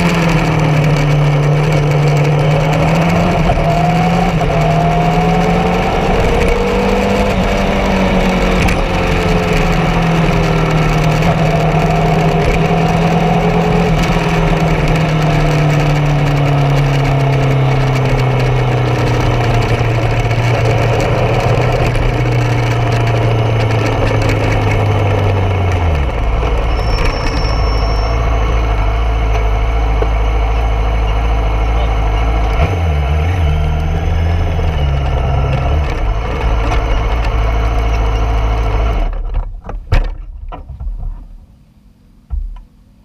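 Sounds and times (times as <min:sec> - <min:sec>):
motorcycle engine running: 0:00.0 - 0:39.6.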